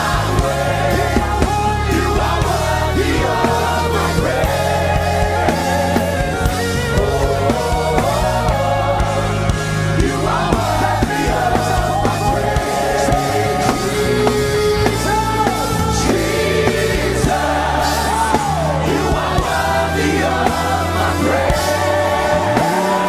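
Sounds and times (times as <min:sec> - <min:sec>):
band with bass and drums: 0:00.0 - 0:23.0.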